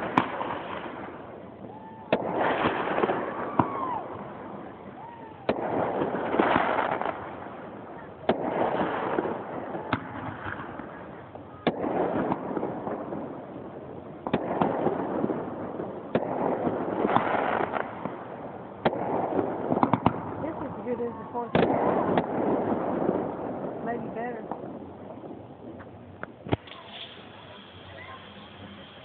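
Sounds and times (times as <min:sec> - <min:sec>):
firework bangs: 0:00.0 - 0:29.0
firework crackle and rumble: 0:00.0 - 0:29.0.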